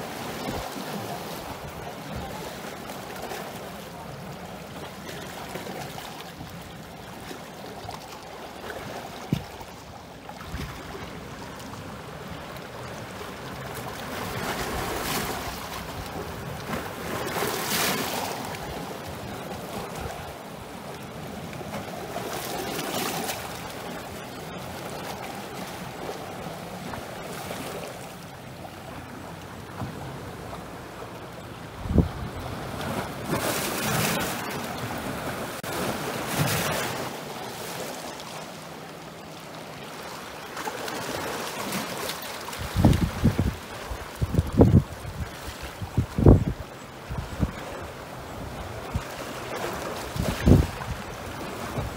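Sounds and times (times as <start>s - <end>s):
waves splashing against rocks: 0.0s - 28.3s, 28.9s - 51.9s.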